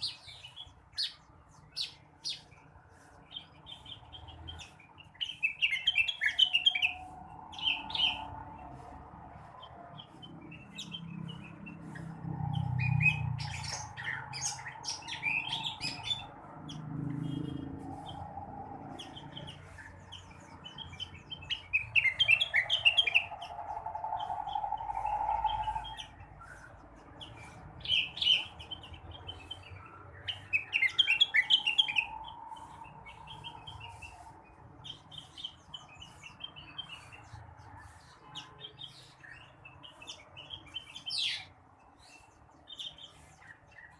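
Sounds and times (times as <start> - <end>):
songbird chirps and trills: 0.0 - 43.9.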